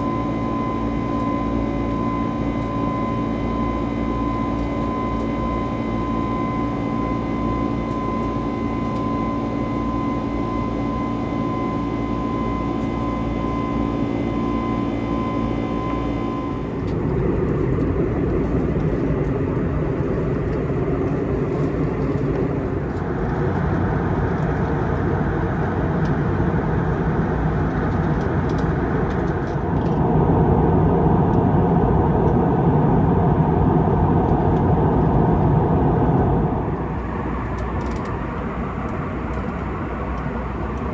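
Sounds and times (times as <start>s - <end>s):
steady whine: 0.0s - 25.4s, 27.7s - 40.9s
airliner cabin engine rumble: 0.0s - 40.9s.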